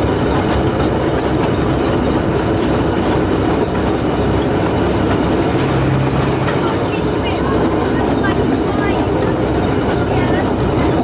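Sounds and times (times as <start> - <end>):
locomotive engine drone: 0.0 - 11.0
wheels rumbling over rails: 0.0 - 11.0.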